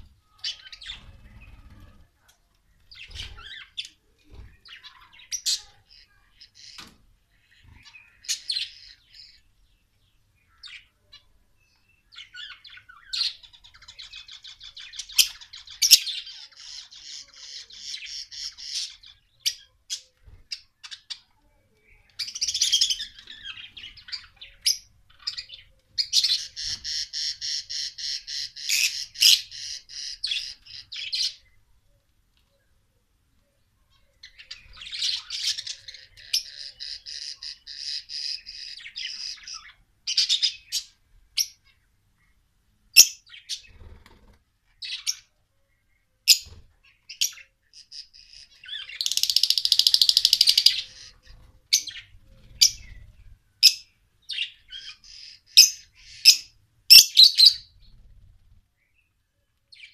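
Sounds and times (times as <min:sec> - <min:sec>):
birds chirping and squawking: 0:00.0 - 0:09.7, 0:10.4 - 0:31.6, 0:33.9 - 0:42.4, 0:43.0 - 0:59.9.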